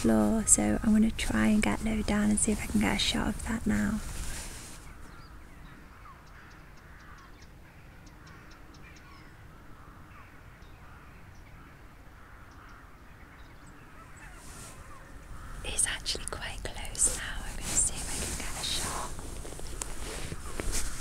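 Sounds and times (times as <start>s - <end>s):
distant bird calls: 4.0s - 21.0s.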